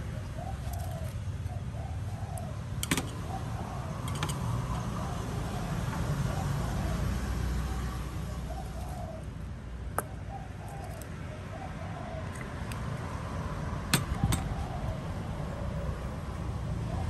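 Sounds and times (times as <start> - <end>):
dove cooing: 0.0 - 9.3, 10.0 - 12.4, 14.0 - 17.0.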